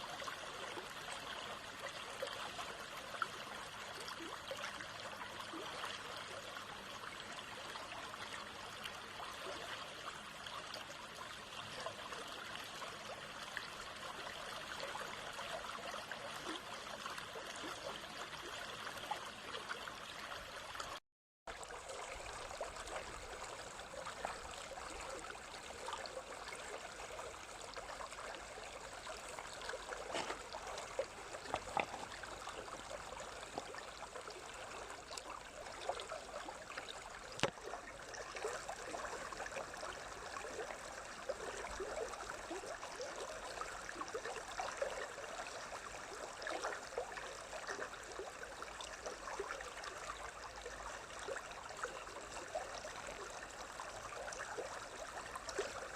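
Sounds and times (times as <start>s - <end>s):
stream water babbling: 0.0s - 55.9s.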